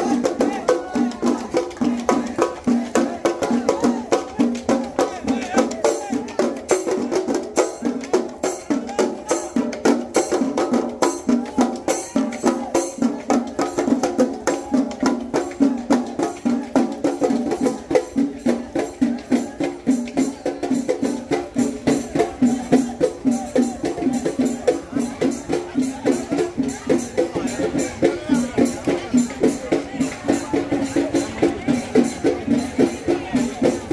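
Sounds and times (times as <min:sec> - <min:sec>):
drums played rapidly with sticks: 0:00.0 - 0:33.9.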